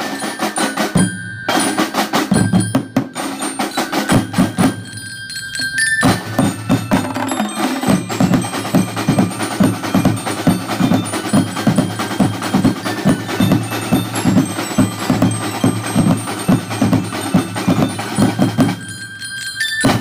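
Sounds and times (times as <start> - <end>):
marching snare and bass drums: 0.0 - 5.1, 6.0 - 19.0
bell lyre melody: 0.0 - 20.0.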